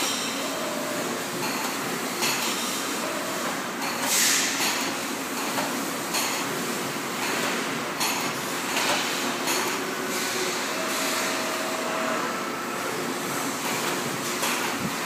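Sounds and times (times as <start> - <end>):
welding machinery running: 0.0 - 15.0.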